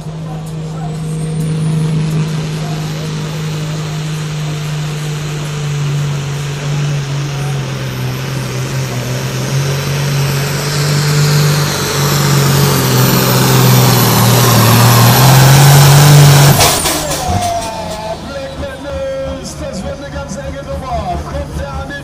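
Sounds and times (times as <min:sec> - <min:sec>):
diesel engine at full throttle: 0:00.0 - 0:22.0.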